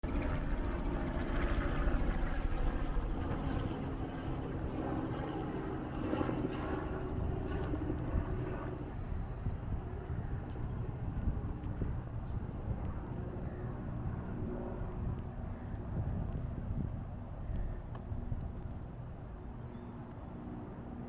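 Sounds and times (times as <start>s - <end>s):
outdoor noise: 0.0s - 21.0s.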